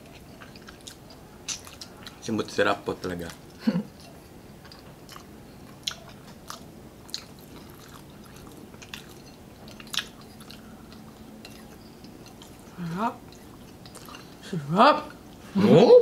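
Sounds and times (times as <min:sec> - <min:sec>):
person chewing and smacking: 0:00.0 - 0:02.3, 0:03.0 - 0:14.4.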